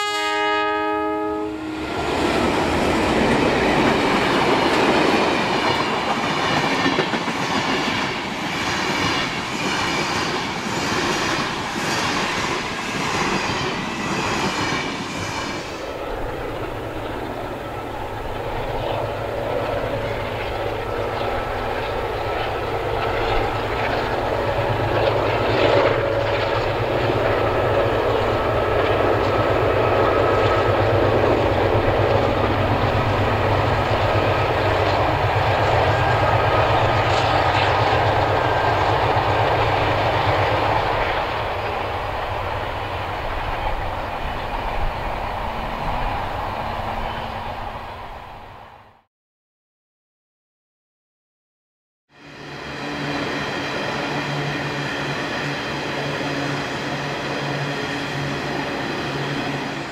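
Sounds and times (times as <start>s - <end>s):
train rumbling past: 0.0s - 49.1s, 52.1s - 59.9s.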